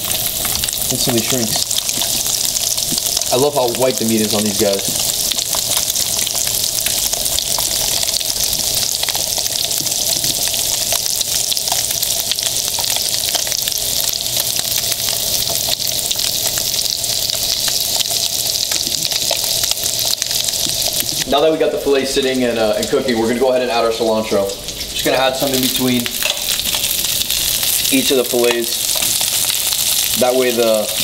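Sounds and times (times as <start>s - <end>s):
fish sizzling in frying pan: 0.0s - 21.3s, 24.6s - 31.0s.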